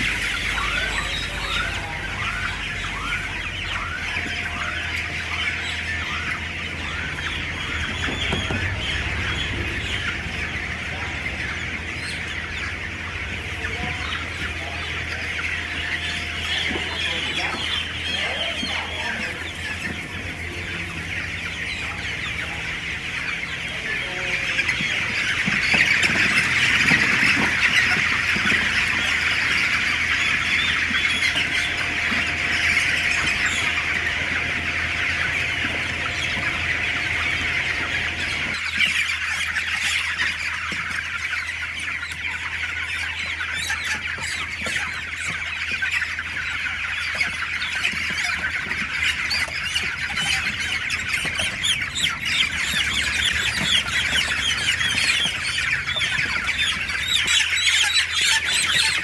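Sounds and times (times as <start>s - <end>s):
chicks peeping and chirping: 0.0s - 59.0s.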